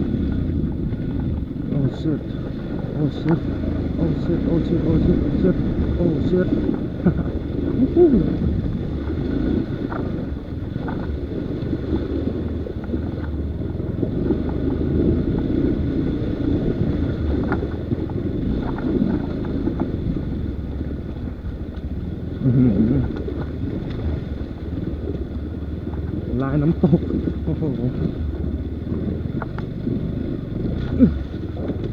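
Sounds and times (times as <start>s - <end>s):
motorcycle engine running: 0.0s - 31.9s
wind buffeting microphone: 0.0s - 31.9s.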